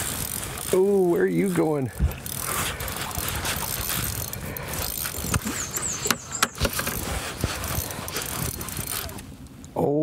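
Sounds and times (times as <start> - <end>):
fishing reel cranking: 0.0 - 9.3.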